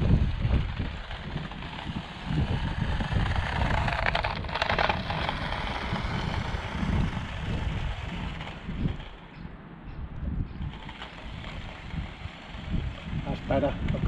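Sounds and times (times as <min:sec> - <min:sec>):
toy car motor whirring: 0:00.0 - 0:09.3, 0:10.6 - 0:14.0
wind buffeting microphone: 0:00.0 - 0:14.0.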